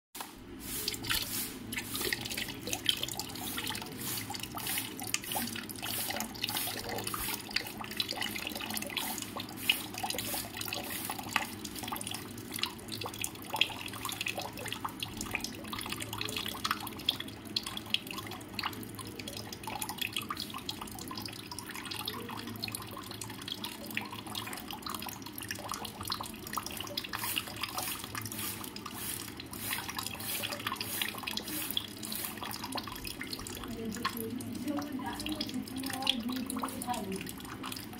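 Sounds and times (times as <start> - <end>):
water dripping: 0.2 - 37.9
running water trickling and splashing: 0.4 - 37.9.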